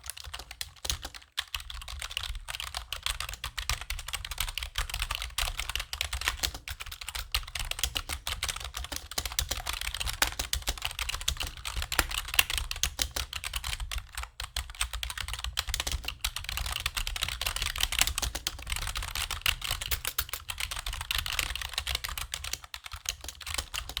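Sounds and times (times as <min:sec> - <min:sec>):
fast typing on keyboard: 0:00.0 - 0:24.0.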